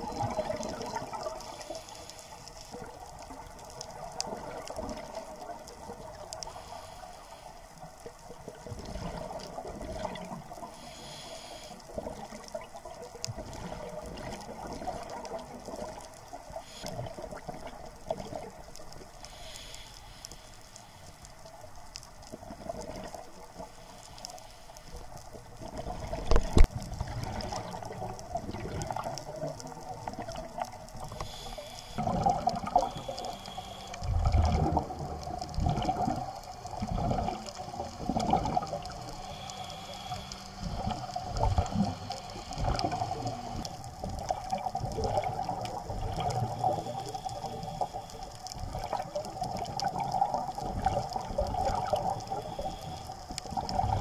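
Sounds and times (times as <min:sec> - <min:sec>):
underwater air bubbling: 0:00.0 - 0:54.0.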